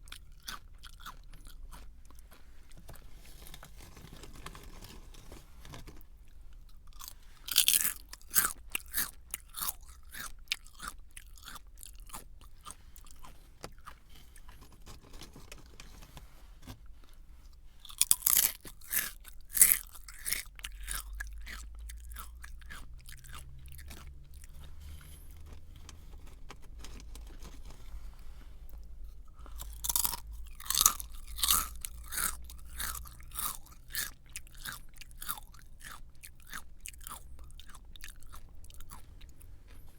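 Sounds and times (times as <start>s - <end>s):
crunchy snack bites crackling: 0.0s - 5.2s, 5.8s - 15.2s, 17.8s - 27.8s, 28.7s - 39.9s
soft chewing: 0.0s - 39.9s.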